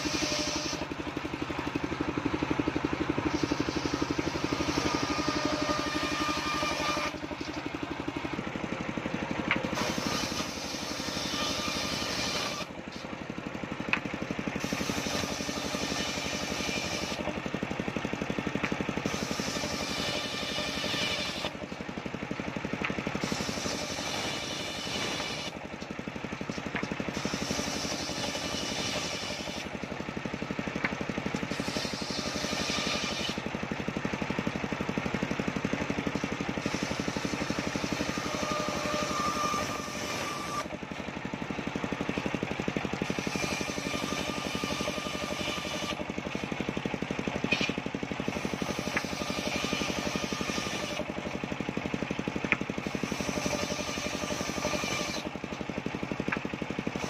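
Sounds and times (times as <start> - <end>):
circular saw cutting wood: 0.0 - 57.0
machine drone: 0.0 - 57.0.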